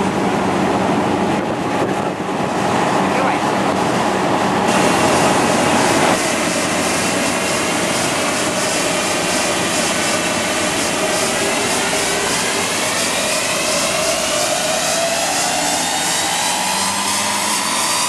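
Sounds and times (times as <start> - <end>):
loud steady rushing noise: 0.0 - 18.0.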